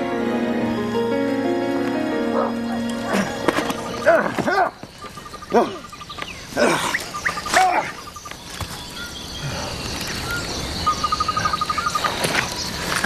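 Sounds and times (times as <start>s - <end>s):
high hiss of nature ambience: 0.0s - 13.0s
insects trilling: 0.0s - 13.0s.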